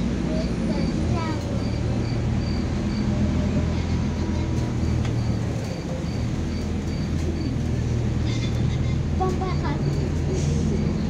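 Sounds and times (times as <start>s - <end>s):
bus engine hum: 0.0s - 11.0s
road noise: 0.0s - 11.0s.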